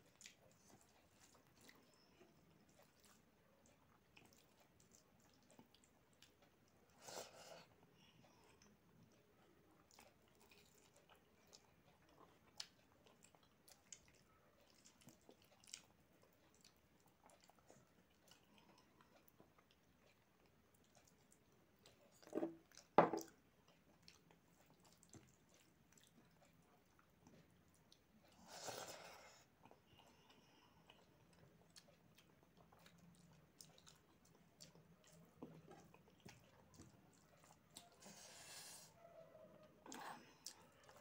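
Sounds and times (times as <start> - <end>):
person chewing: 0.0 - 39.0, 39.8 - 41.0.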